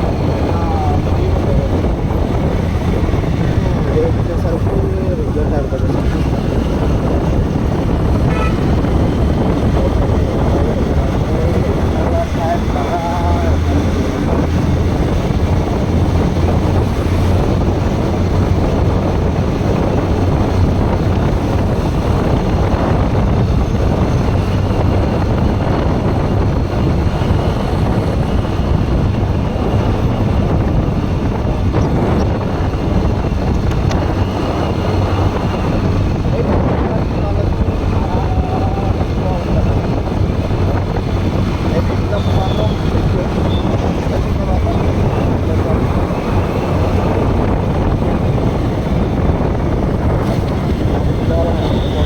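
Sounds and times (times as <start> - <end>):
motorcycle engine droning: 0.0 - 52.0
wind noise on microphone: 0.0 - 52.0.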